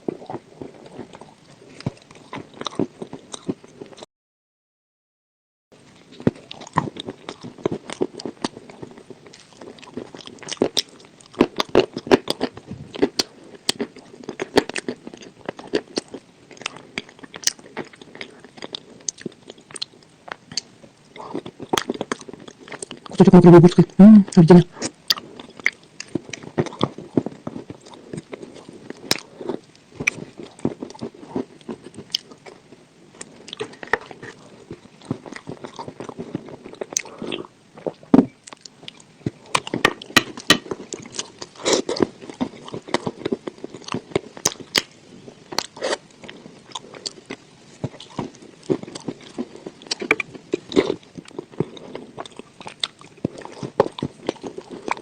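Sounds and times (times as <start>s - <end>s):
crunching and chewing clay: 0.0s - 4.0s, 5.9s - 23.2s, 24.8s - 55.0s.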